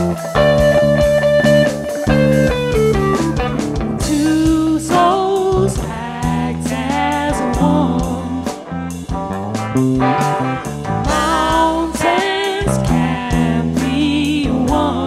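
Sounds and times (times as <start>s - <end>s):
steady beat: 0.0s - 14.0s
bass line: 0.0s - 15.0s
guitar: 0.0s - 15.0s.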